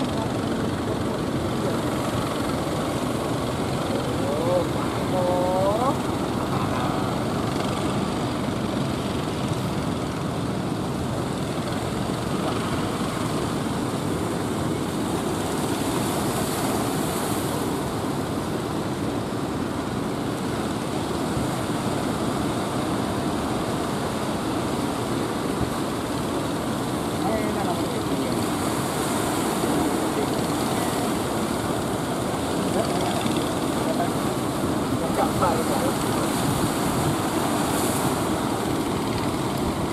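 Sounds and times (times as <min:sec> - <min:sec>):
boat engine running: 0:00.0 - 0:39.9
breaking waves: 0:00.0 - 0:39.9
wind: 0:00.0 - 0:39.9.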